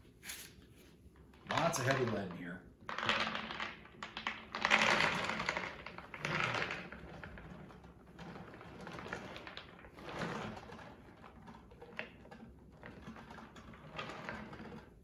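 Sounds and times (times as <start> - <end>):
metal balls rattling out of jar: 1.5 - 15.0.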